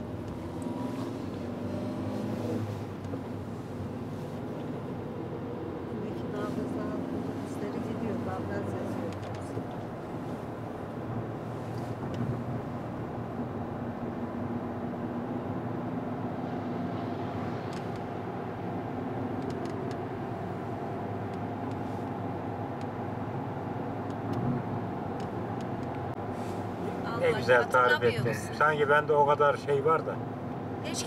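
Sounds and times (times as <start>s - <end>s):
car engine hum inside cabin: 0.0s - 31.0s
road noise: 0.0s - 31.0s.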